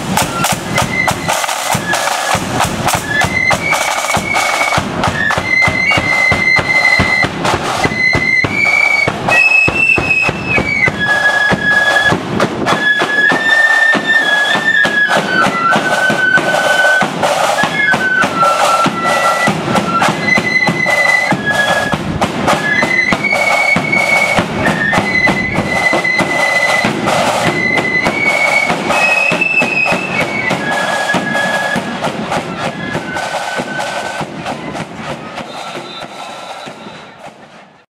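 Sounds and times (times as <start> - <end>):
flute band playing in unison: 0.0 - 37.9
marching drums: 0.0 - 37.9.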